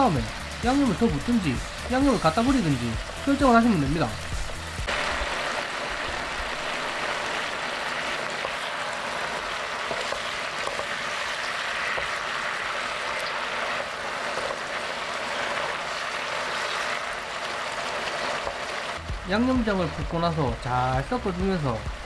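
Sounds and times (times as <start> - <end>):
food sizzling in a wok: 0.0 - 19.3.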